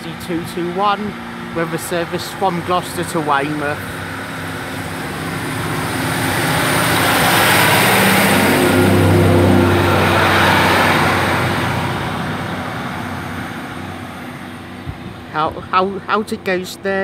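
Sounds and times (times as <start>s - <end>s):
diesel train engines running: 0.0s - 17.0s.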